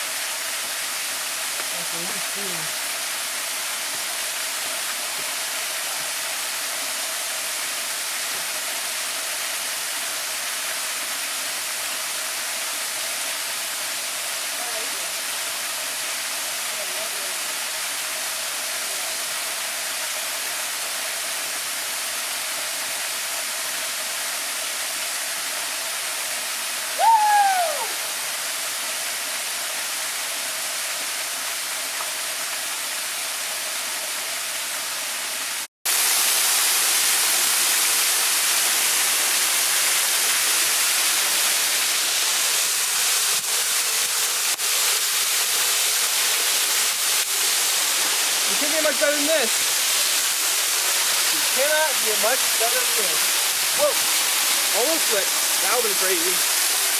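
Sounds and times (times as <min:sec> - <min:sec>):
waterfall rushing: 0:00.0 - 0:21.1, 0:24.7 - 0:30.2, 0:35.4 - 0:56.9.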